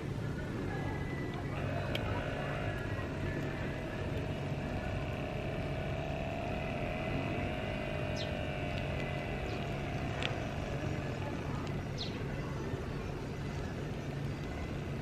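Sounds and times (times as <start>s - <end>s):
electric air pump whirring: 1.3s - 15.0s.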